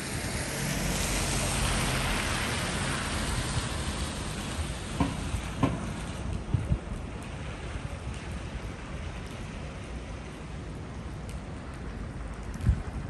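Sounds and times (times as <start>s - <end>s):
steady rushing city noise: 0.0s - 13.0s.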